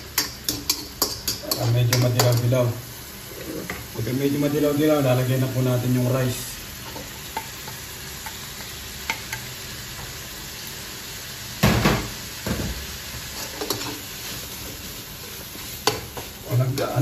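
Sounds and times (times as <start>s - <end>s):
rice sizzling in a wok: 0.0s - 17.0s.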